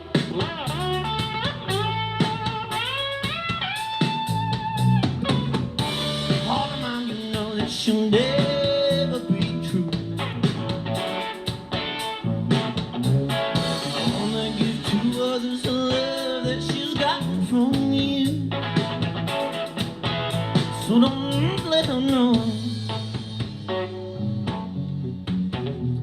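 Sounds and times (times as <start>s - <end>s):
bass and drums: 0.0s - 26.0s
guitar with gliding notes: 0.0s - 26.0s
instrumental music from speaker: 0.0s - 26.0s.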